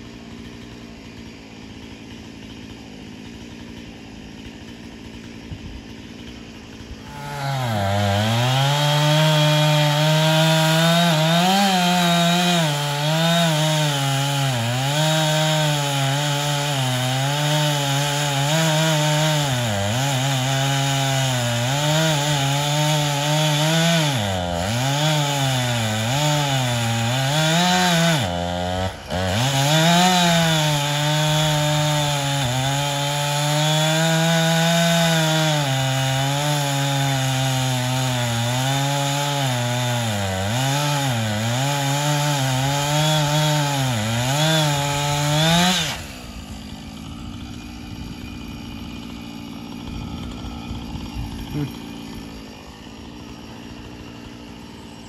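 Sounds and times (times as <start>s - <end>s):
chainsaw cutting into tree trunk: 0.0s - 55.0s.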